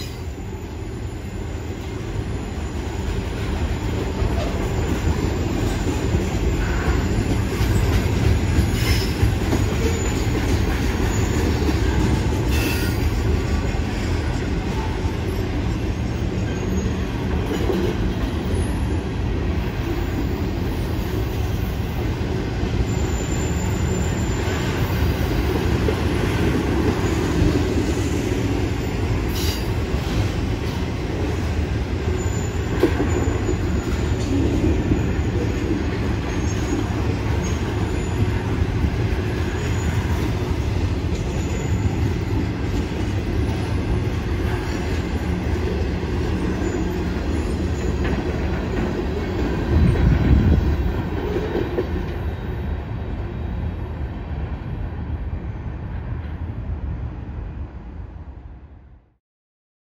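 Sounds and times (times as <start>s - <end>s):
freight train wheels rumbling: 0.0s - 58.5s.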